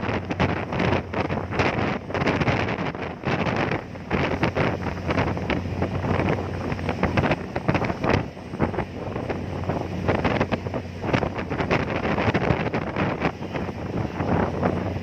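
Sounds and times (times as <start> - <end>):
ferry engine running: 0.0 - 15.0
wind buffeting microphone: 0.0 - 15.0.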